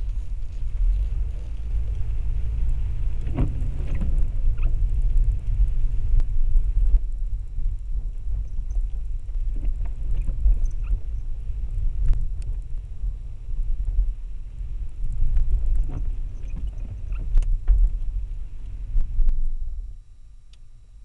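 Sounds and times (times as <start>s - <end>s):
light ticks: 0.0s - 12.8s, 15.0s - 19.4s
car driving on wet road: 0.0s - 19.2s.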